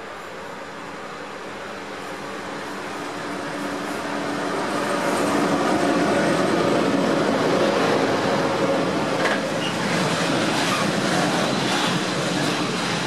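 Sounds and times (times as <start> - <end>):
freight train rolling by: 0.0 - 13.0.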